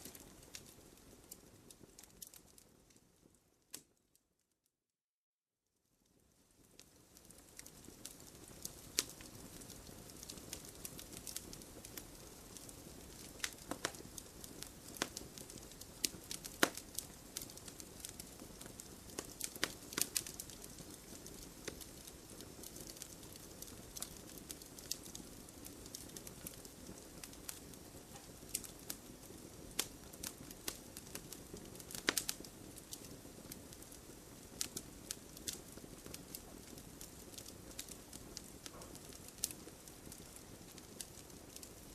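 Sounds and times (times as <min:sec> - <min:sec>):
fireplace fire crackling: 0:00.0 - 0:04.2, 0:05.8 - 0:41.9.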